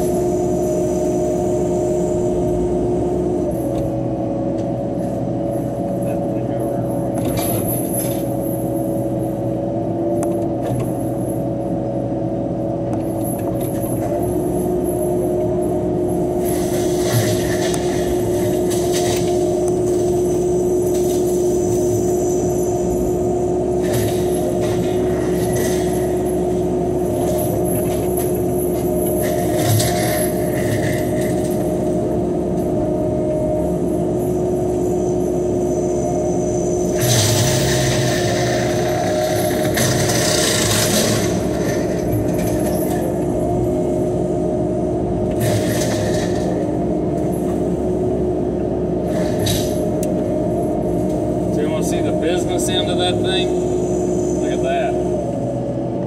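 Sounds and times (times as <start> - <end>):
excavator engine hum and whine: 0.0 - 56.0.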